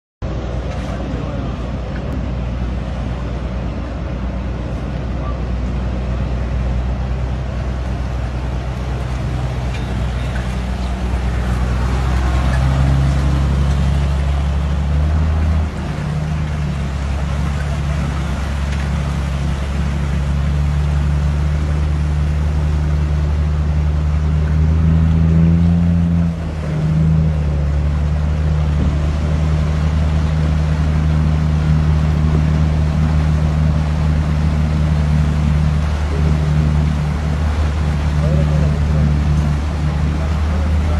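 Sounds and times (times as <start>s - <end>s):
vehicle engine humming: 0.2s - 40.9s.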